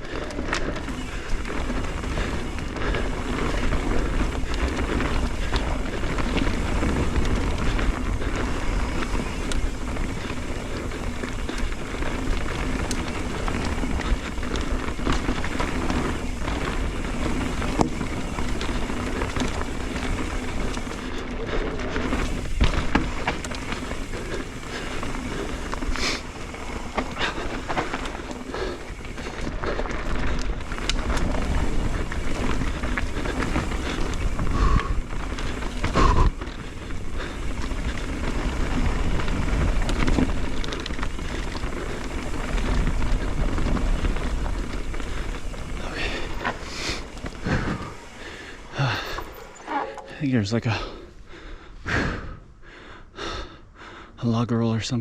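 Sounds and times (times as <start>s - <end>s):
bike clicks and rattles: 0.0s - 54.4s
bike tyres on dirt trail: 0.0s - 55.0s.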